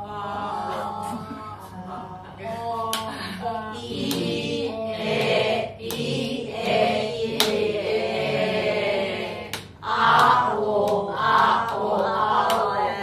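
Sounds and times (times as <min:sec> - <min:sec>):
people repeating in unison: 0:00.0 - 0:13.0.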